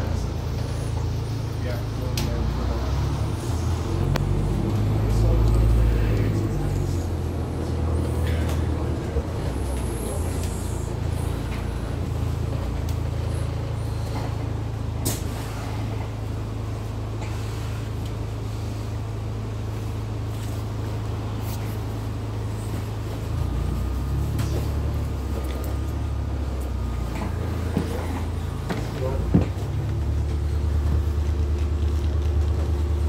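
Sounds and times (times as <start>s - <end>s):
bus engine droning: 0.0s - 33.0s.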